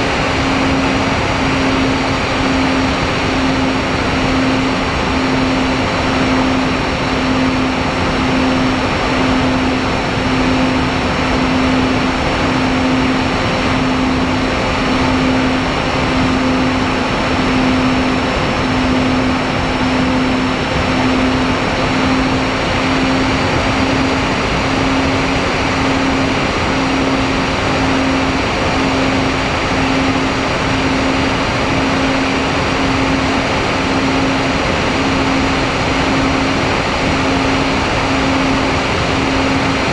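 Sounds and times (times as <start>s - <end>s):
electric motors and propellers humming: 0.0s - 39.9s
wind rushing over microphone: 0.0s - 39.9s.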